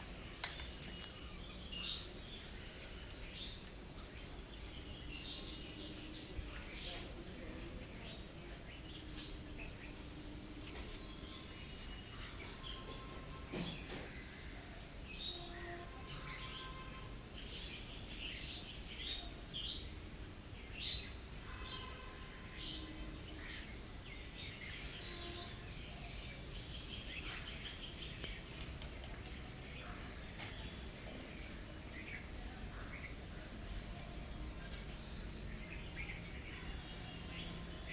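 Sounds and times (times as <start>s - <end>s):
high-pitched insect drone: 0.0s - 37.9s.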